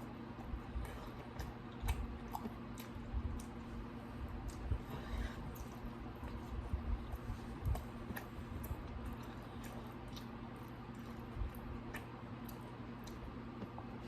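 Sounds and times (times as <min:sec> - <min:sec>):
chewing food: 0:00.0 - 0:14.0
steady low hum: 0:00.0 - 0:14.0.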